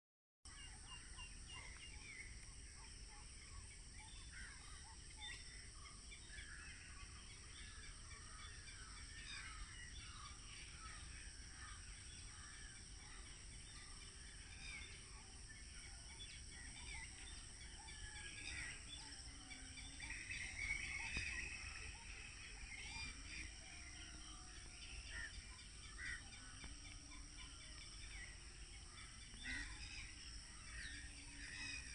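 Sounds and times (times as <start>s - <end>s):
birds chirping and calling: 3.1s - 31.9s.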